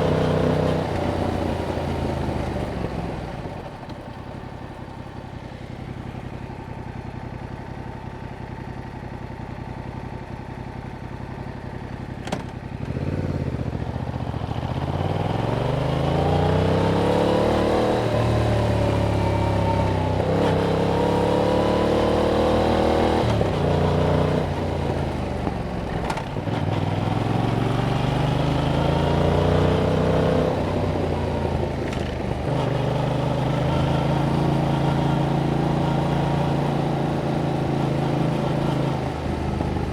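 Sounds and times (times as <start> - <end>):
motorcycle engine accelerating: 0.0 - 6.8, 11.6 - 39.9.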